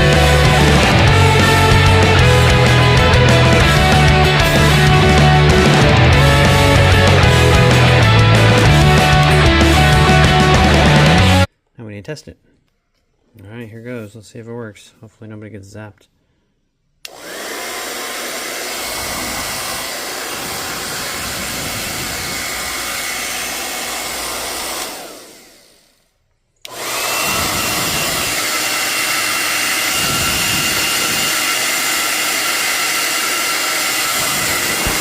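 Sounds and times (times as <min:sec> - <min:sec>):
hair dryer whining: 0:00.0 - 0:11.5, 0:17.0 - 0:35.0.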